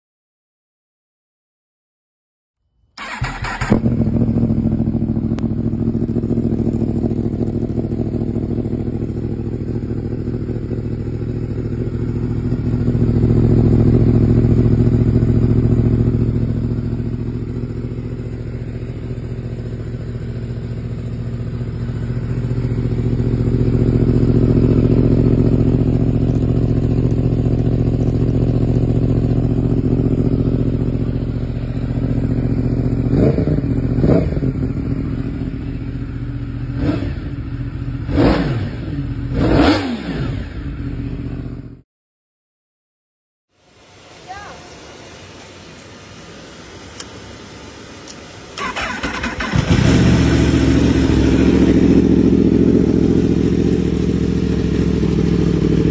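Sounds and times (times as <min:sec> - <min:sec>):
motorcycle engine revving: 0:03.0 - 0:41.8, 0:48.6 - 0:55.9.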